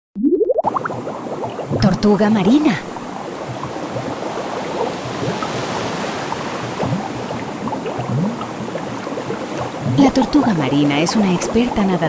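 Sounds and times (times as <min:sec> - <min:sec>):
sea water rushing: 0:00.6 - 0:12.0.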